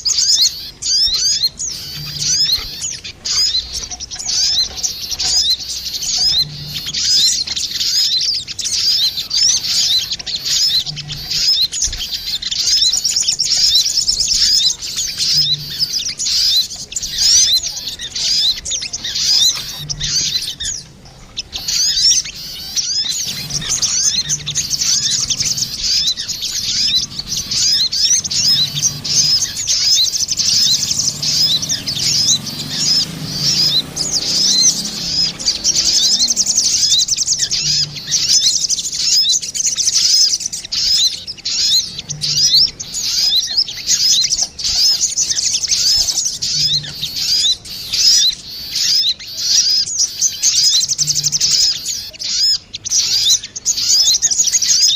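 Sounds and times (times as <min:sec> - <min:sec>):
birds chirping rapidly: 0:00.0 - 0:54.9.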